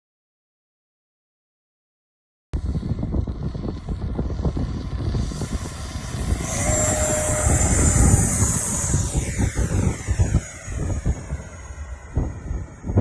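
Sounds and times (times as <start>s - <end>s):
electric ducted fan roaring: 2.6s - 13.0s
high fan whine: 2.6s - 13.0s.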